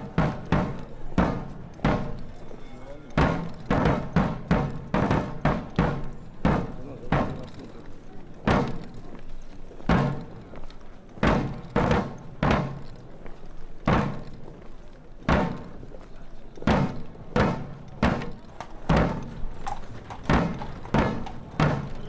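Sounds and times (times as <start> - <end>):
sharp ringing thuds: 0.0 - 9.2, 9.8 - 13.2, 13.8 - 14.5, 15.2 - 16.0, 16.6 - 22.0.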